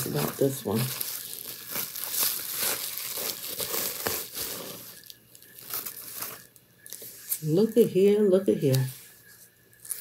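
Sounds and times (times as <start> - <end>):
packaging crinkling and rustling: 0.0 - 7.8, 8.5 - 10.0.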